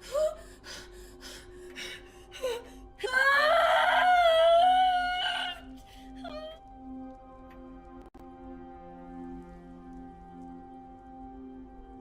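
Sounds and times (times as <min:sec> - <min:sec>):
low music drone: 0:00.0 - 0:12.0.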